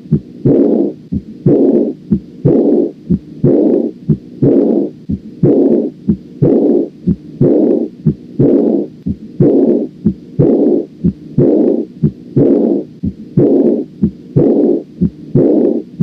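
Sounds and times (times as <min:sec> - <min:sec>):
heartbeat with whooshing murmur: 0:00.0 - 0:16.0.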